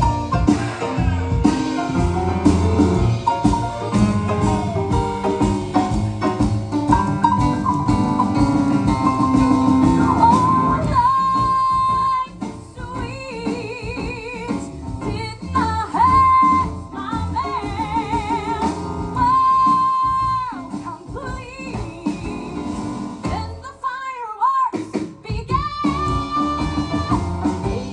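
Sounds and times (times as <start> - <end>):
band accompaniment: 0.0 - 23.7, 24.9 - 27.9.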